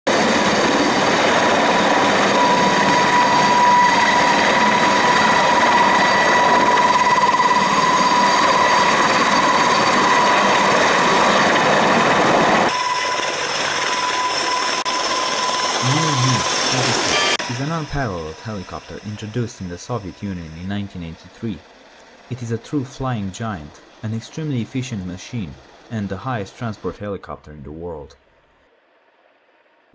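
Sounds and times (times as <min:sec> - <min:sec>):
helicopter engine roar and whine: 0:00.1 - 0:27.1.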